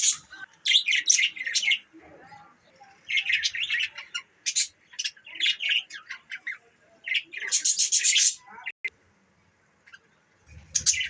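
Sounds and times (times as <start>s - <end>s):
budgerigars chirping and warbling: 0.0s - 8.8s, 9.8s - 11.0s.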